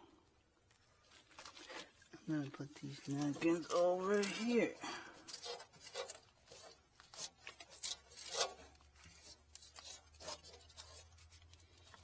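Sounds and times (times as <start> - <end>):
paper napkins rustling: 1.0 - 12.0.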